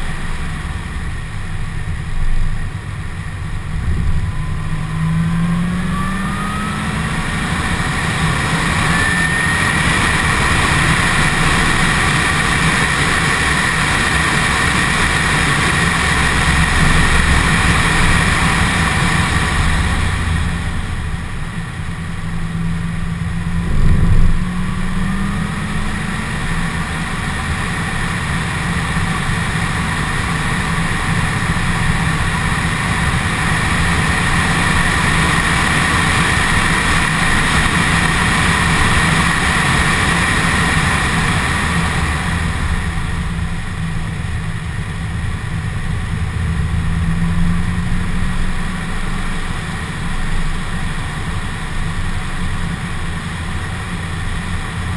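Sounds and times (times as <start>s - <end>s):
sports car engine running hard: 0.0s - 54.9s
supercharger whine: 0.0s - 54.9s.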